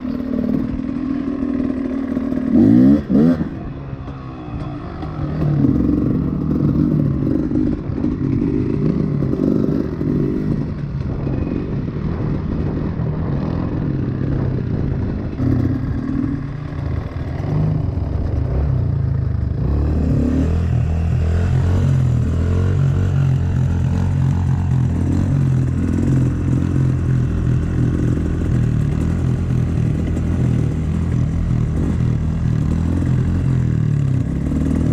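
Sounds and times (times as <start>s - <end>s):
motorbike engine revving: 0.0s - 34.9s.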